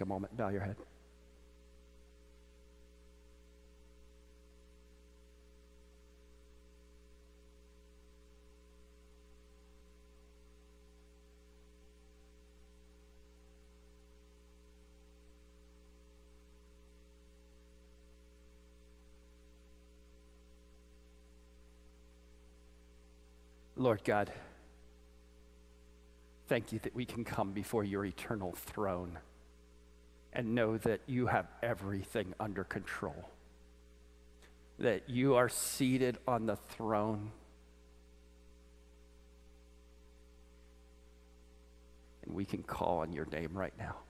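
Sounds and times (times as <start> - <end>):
faint electrical mains hum: 0.0 - 44.0.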